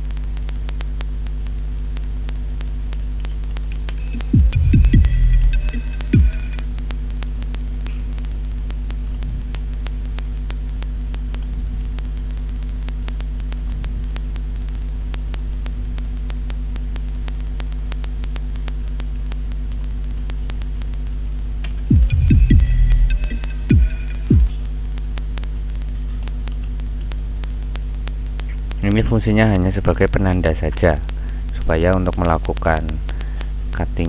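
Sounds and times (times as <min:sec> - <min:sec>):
electrical buzzing hum with static: 0:00.0 - 0:34.0
sharp irregular clicks: 0:00.0 - 0:34.0.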